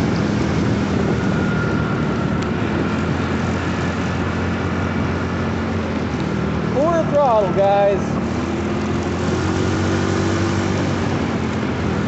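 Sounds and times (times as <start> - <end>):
motorcycle engine cruising: 0.0 - 12.0
road noise: 0.0 - 12.0
rushing wind: 0.0 - 12.0.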